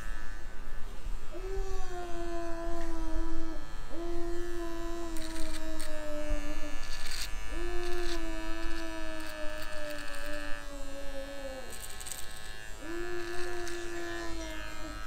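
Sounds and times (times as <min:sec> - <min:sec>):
crackles of hair being cut: 0:00.0 - 0:15.0
hair clipper buzzing: 0:00.0 - 0:15.0.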